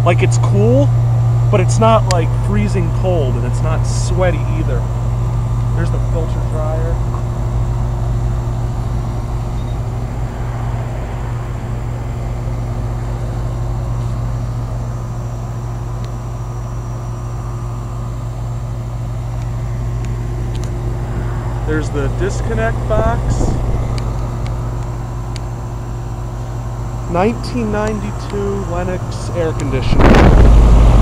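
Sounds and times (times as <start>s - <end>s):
air conditioner unit humming: 0.0s - 31.0s.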